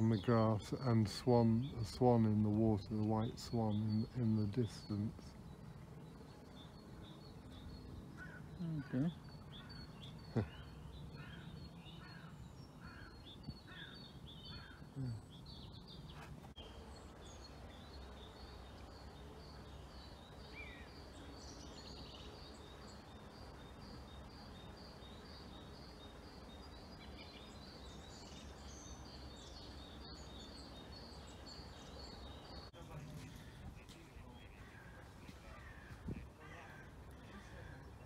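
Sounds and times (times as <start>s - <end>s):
faint outdoor background: 0.0s - 38.0s.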